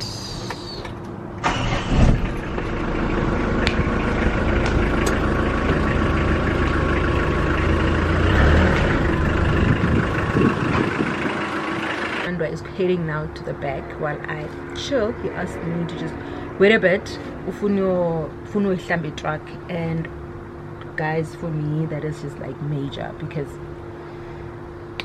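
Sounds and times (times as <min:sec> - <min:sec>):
truck engine starting and running: 0:00.0 - 0:21.0.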